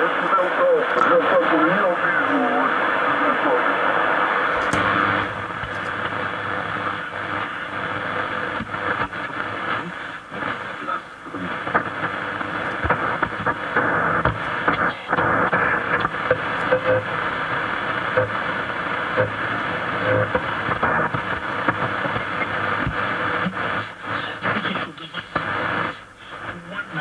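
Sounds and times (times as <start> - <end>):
shortwave radio static and hiss: 0.0 - 27.0.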